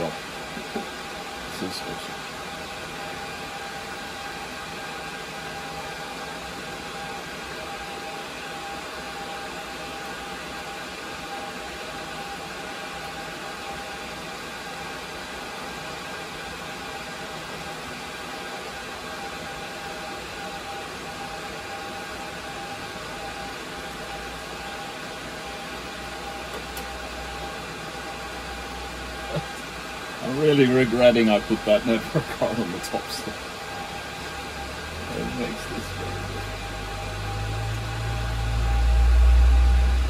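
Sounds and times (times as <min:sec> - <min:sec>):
server cooling fans whirring: 0:00.0 - 0:40.0.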